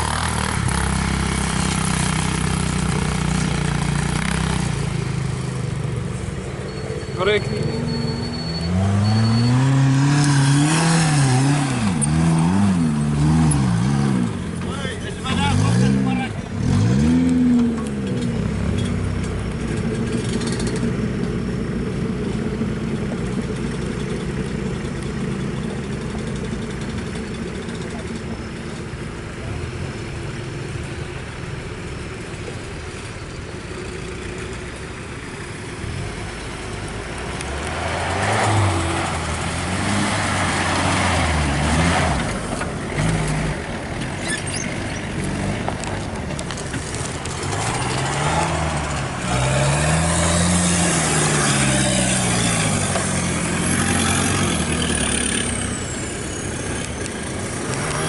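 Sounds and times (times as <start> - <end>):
jeeps and motorcycles driving past: 0.0 - 20.9, 23.5 - 58.0.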